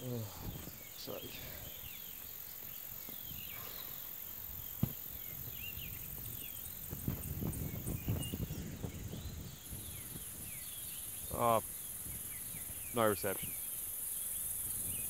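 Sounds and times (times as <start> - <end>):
low rustling thuds: 0.0 - 13.5
insect drone: 0.0 - 15.0.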